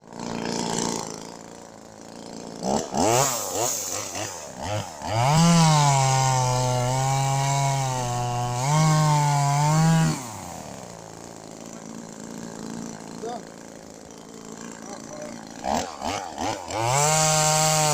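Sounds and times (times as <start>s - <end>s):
chainsaw revving and cutting wood: 0.0s - 17.9s.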